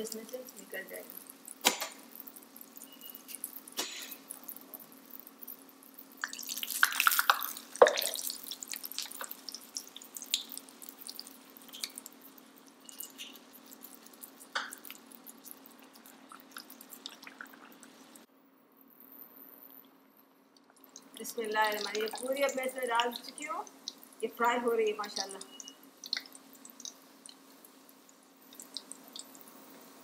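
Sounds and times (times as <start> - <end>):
food deep-frying in oil: 0.0 - 18.3, 20.6 - 30.0.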